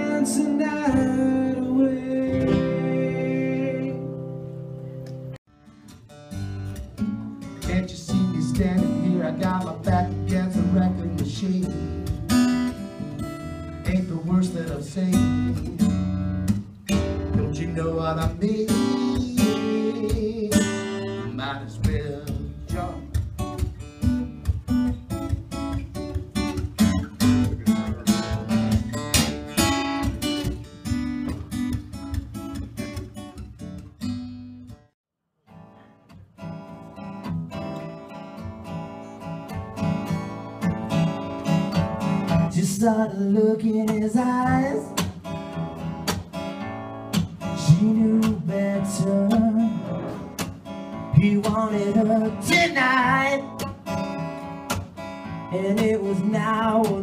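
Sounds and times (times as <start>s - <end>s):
acoustic guitar picking and strumming: 0.0s - 57.0s.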